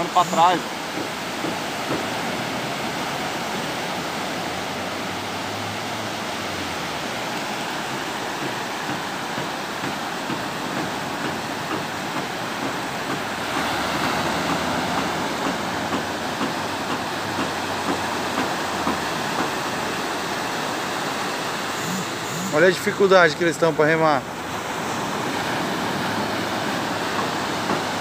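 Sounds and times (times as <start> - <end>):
surf breaking on beach: 0.0 - 28.0.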